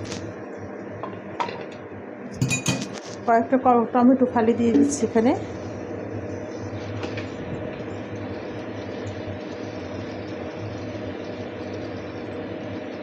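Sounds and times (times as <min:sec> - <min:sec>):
constant low hum: 0:00.0 - 0:13.0
even hiss of cooking: 0:02.3 - 0:13.0.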